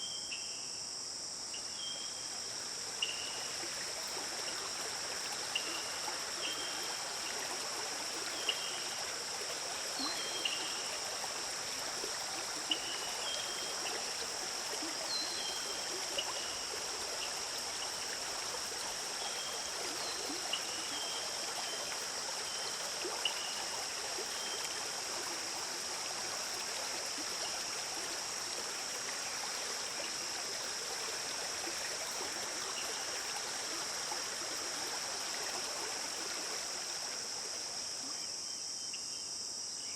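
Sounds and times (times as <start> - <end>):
river water flowing: 1.1 - 38.4.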